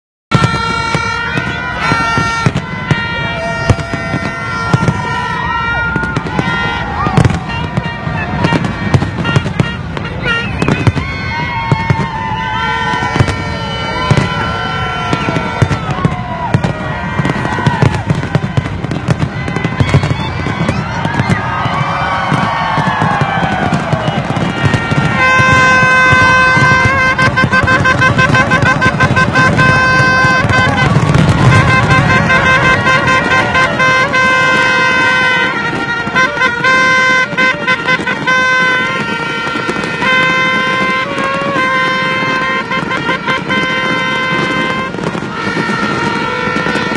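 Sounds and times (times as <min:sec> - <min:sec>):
fireworks bangs and crackles: 0:00.3 - 0:46.9
fireworks whistling: 0:00.3 - 0:46.9
horns holding long notes: 0:00.3 - 0:46.9.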